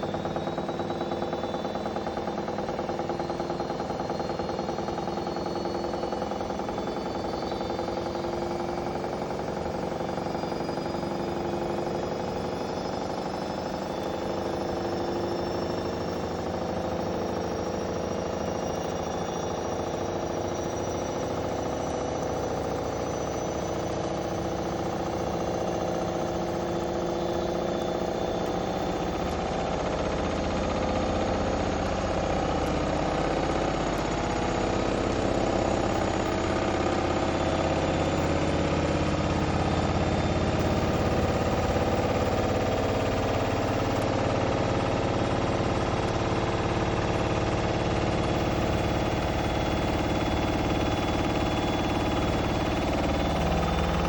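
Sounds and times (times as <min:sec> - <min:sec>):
washing machine spinning whine: 0:00.0 - 0:54.0.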